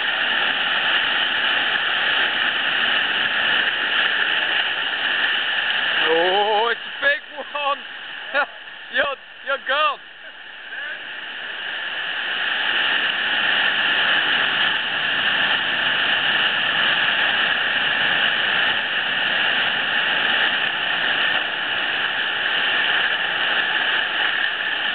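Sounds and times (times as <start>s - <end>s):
churning sea water rushing: 0.0s - 24.9s.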